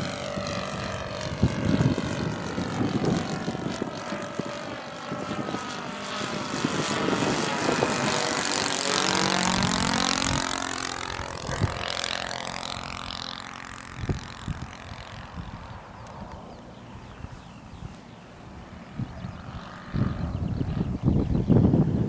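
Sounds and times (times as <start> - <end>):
propeller airplane flying past: 0.0 - 22.0.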